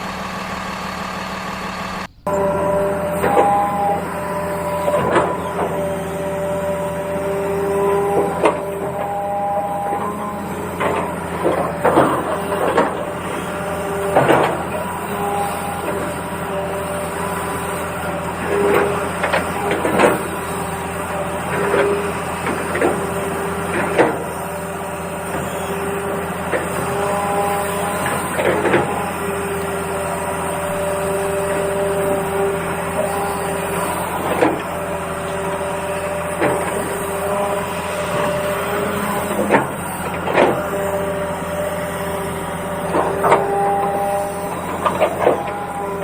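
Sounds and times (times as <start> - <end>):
small electric motors whirring: 0.0 - 46.0
soil and sand scraping: 0.0 - 46.0.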